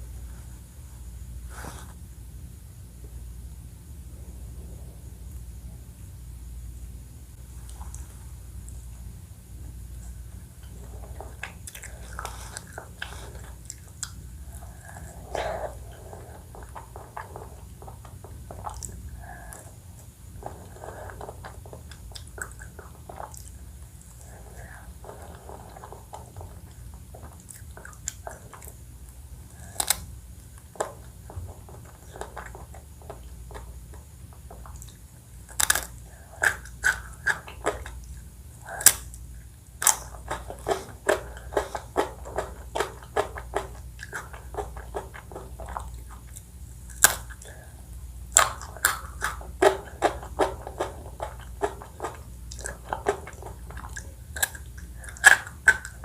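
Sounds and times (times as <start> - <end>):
crunchy chewing of ice cream: 9.9 - 56.0.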